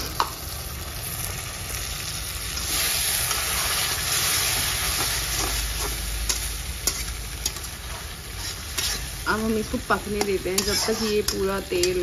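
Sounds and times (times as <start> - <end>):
frying food sizzling in oil: 0.0 - 12.0.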